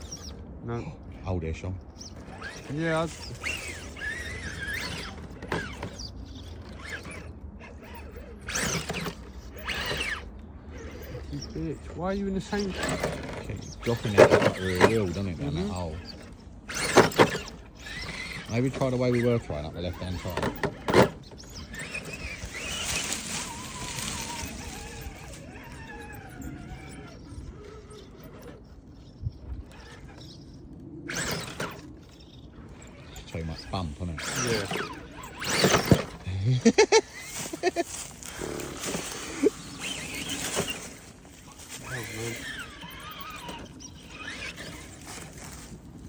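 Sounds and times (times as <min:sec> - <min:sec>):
electric motor whining in bursts: 0:00.0 - 0:01.2, 0:01.8 - 0:46.0.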